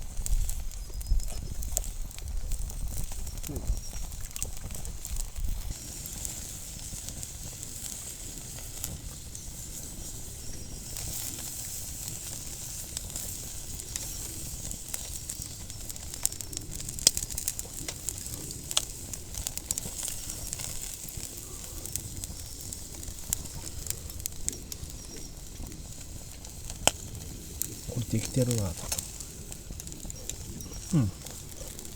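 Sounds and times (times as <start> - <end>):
campfire crackling: 0.0 - 31.9
chicken skewers sizzling: 5.6 - 31.9.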